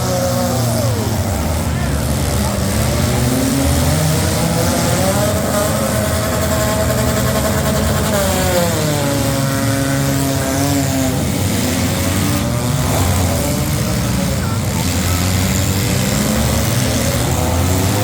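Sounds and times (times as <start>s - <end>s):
car engines revving together: 0.0s - 18.0s.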